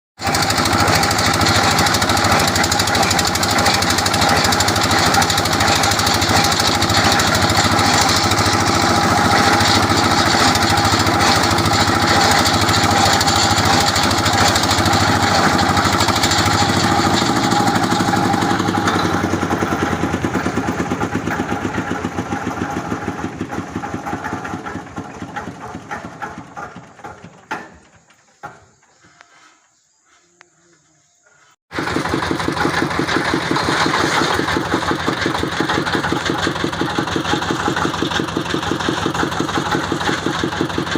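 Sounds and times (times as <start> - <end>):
boring machine engine running: 0.2 - 28.7, 31.7 - 40.9.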